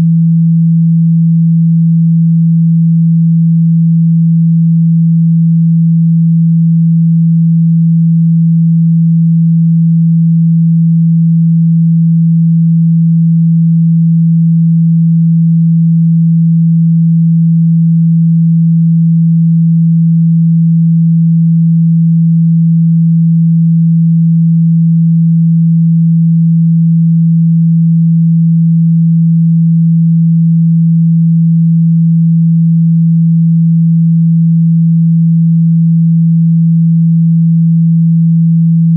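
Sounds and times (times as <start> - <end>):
low sine test tone: 0.0 - 38.9.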